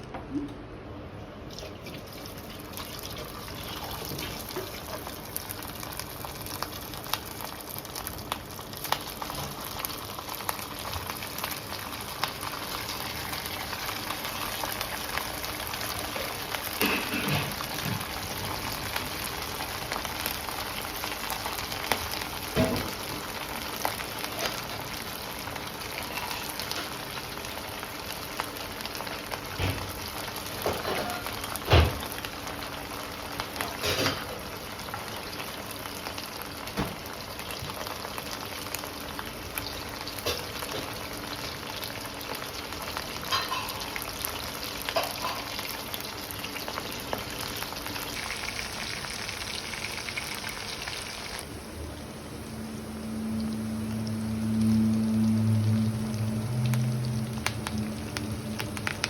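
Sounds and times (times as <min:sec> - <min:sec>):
food sizzling in hot oil: 0:02.2 - 0:59.0.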